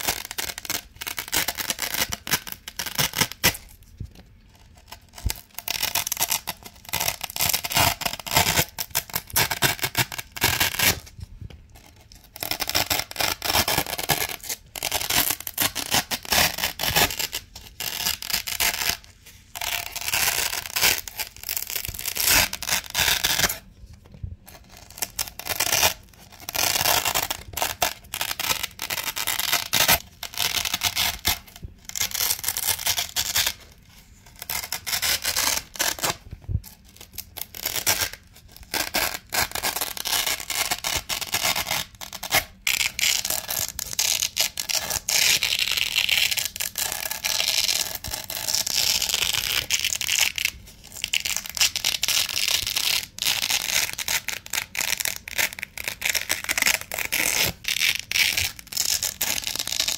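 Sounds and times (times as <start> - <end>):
velcro ripping: 0.0 - 3.8, 4.8 - 23.7, 24.5 - 59.9.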